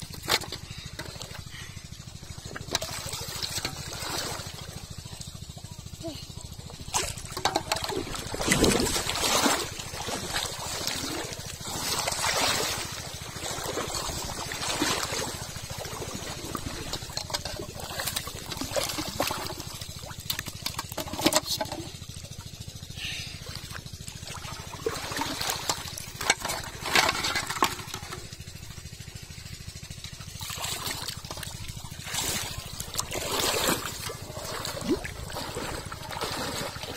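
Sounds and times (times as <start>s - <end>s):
water splashing and trickling: 0.0s - 36.9s
fish splashing: 0.1s - 5.9s, 6.6s - 28.6s, 30.0s - 36.9s.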